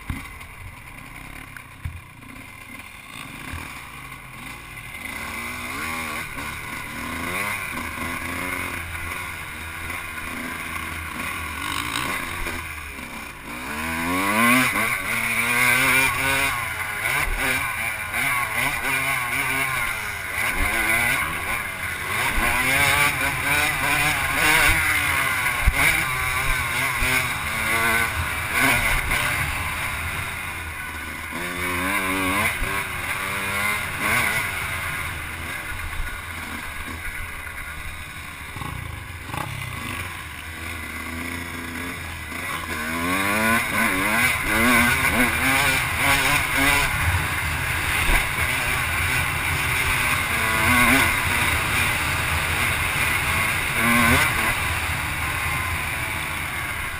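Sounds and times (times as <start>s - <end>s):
off-road vehicle engine revving: 0.0s - 56.9s.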